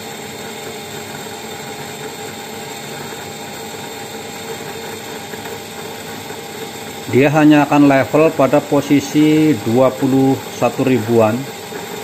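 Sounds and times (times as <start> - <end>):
electric rotor whirring: 0.0 - 12.0.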